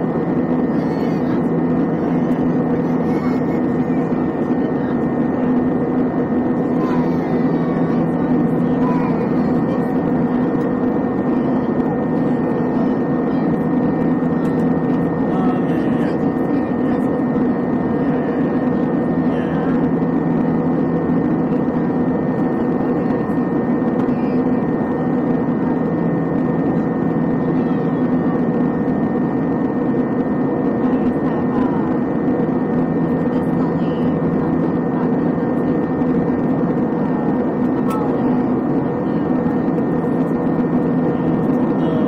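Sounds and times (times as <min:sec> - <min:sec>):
airplane cabin engine drone: 0:00.0 - 0:42.0
constant hum: 0:00.0 - 0:42.0.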